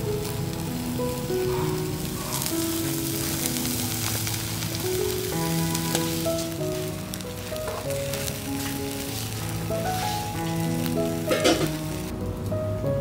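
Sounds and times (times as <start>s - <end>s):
charcoal crackles: 0.0s - 13.0s
fish sizzling on grill: 0.0s - 13.0s
slow background music: 0.0s - 13.0s.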